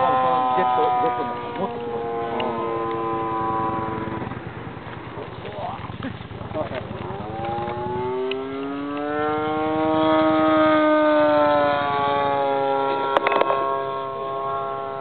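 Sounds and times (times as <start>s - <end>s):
model plane engine: 0.0s - 15.0s.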